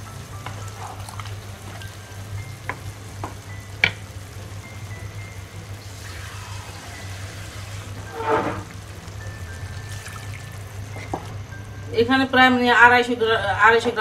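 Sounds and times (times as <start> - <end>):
faint sizzle: 0.0 - 14.0
low steady hum: 0.0 - 14.0.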